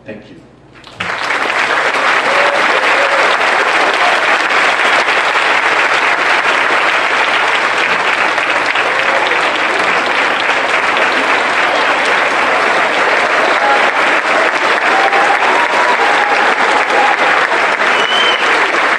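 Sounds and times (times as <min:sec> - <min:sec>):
audience applauding: 0:00.8 - 0:18.9.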